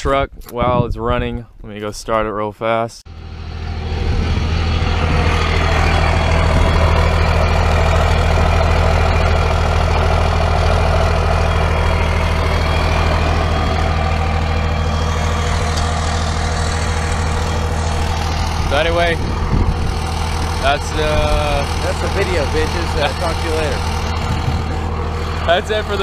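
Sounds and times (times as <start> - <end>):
diesel engine idling: 3.1 - 26.0.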